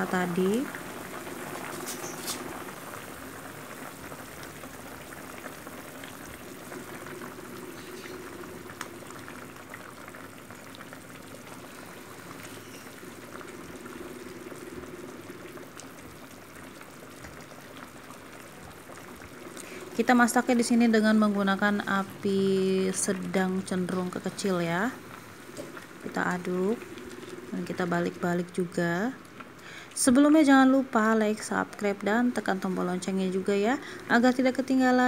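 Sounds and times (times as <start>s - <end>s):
broth boiling in a pan: 0.0s - 35.0s.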